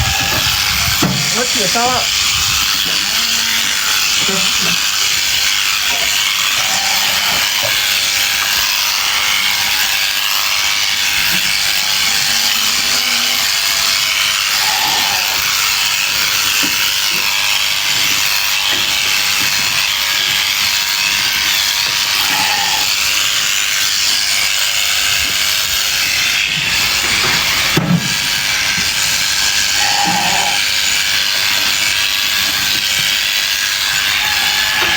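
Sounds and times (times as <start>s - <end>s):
electric sheep shears buzzing: 0.0s - 34.9s.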